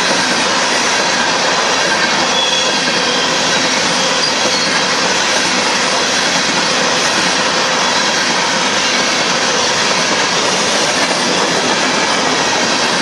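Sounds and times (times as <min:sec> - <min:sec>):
freight train wheels rattling on rails: 0:00.0 - 0:13.0.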